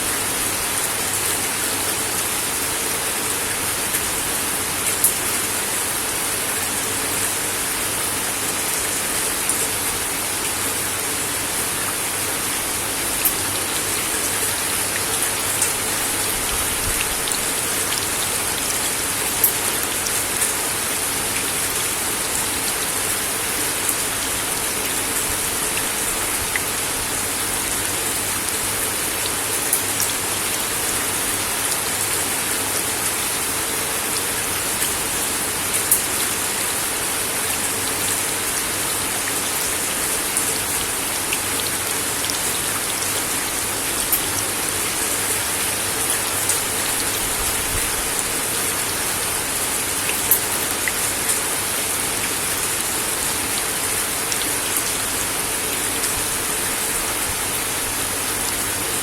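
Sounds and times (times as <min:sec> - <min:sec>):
rain falling on wooden deck: 0:00.0 - 0:59.0.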